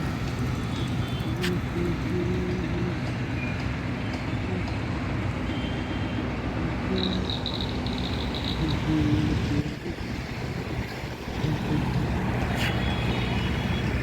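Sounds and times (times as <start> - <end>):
passing vehicles rumbling: 0.0 - 14.0.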